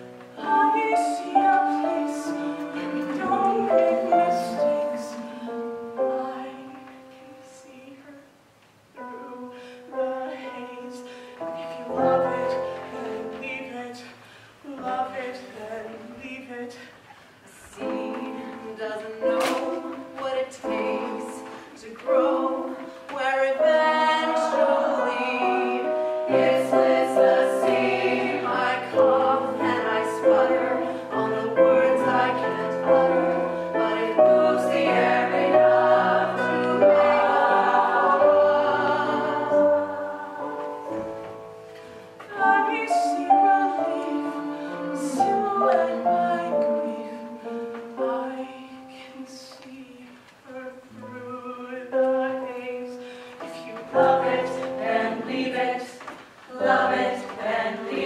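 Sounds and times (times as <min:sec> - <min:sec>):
women singing in harmony: 0:00.0 - 0:08.3, 0:09.0 - 0:41.2, 0:42.0 - 0:58.0.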